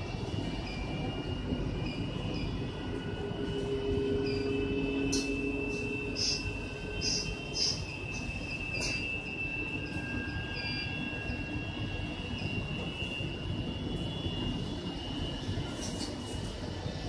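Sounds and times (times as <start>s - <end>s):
high steady whine: 0.0s - 17.0s.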